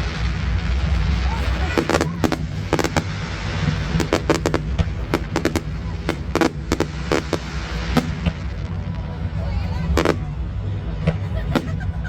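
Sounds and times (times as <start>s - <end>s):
fireworks bangs and crackles: 0.0s - 12.0s
low rumble: 0.0s - 12.0s.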